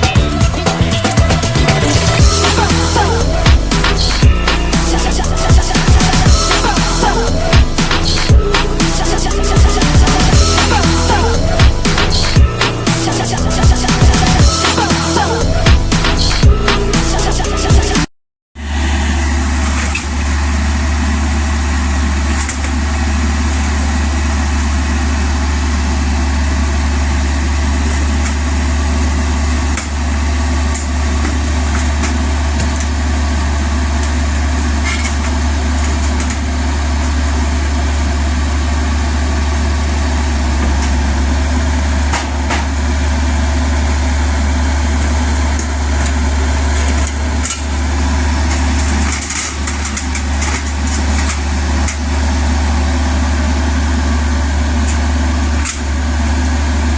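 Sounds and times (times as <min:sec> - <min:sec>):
diesel engine rumbling: 0:00.0 - 0:56.9.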